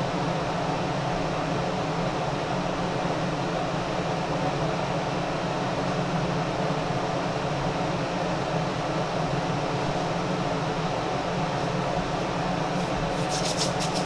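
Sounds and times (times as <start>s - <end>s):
ventilation fan running: 0.0s - 14.0s.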